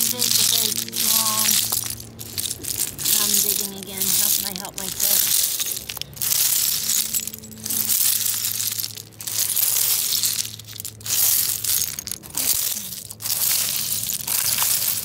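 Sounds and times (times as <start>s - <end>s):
shells and pebbles clattering: 0.0s - 15.0s.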